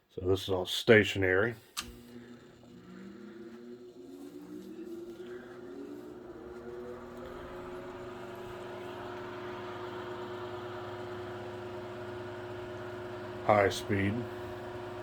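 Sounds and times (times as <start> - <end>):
fan air rushing: 1.6 - 15.0
table fan motor humming: 1.6 - 15.0.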